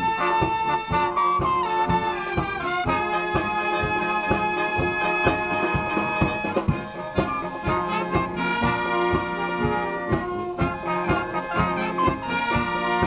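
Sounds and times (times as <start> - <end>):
instrumental music with brass: 0.0 - 13.0.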